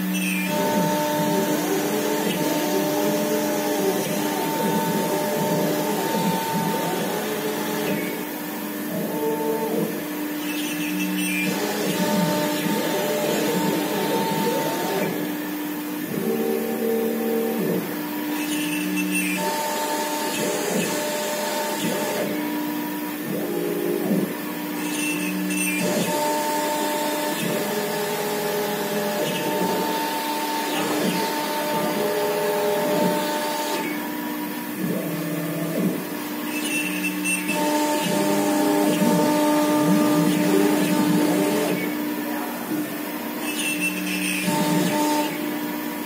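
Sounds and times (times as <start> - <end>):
motors whining in shifting tones: 0.0 - 46.0
router spindle cutting hiss: 0.0 - 46.0.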